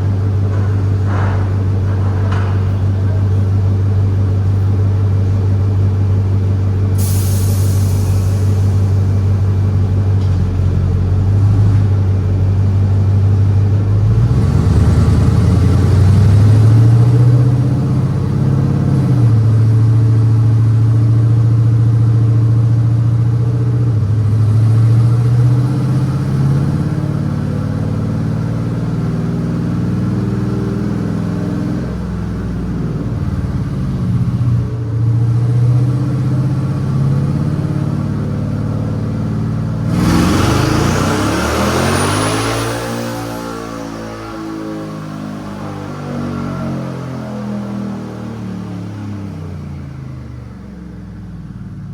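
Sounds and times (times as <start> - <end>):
pickup truck engine revving: 0.0 - 49.2.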